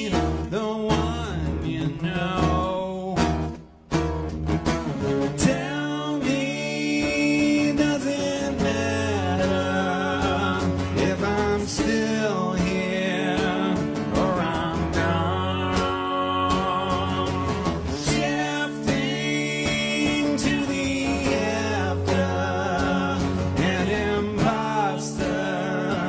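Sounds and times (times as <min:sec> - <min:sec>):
person singing: 0:00.0 - 0:03.4, 0:05.2 - 0:26.0
acoustic guitars strumming: 0:00.0 - 0:26.0.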